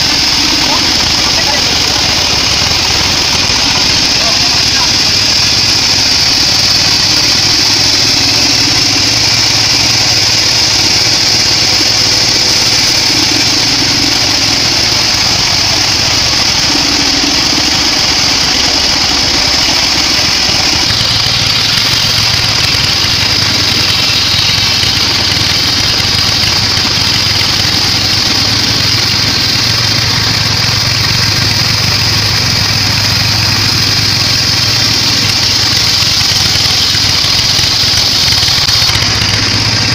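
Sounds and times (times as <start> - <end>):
low drive hum: 0.0 - 37.5
bandsaw blade whine: 0.0 - 39.9.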